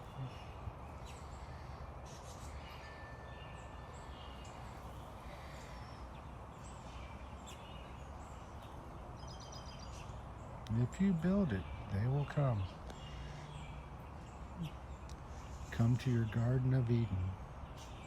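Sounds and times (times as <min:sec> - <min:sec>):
bird chirps: 0:00.0 - 0:18.0.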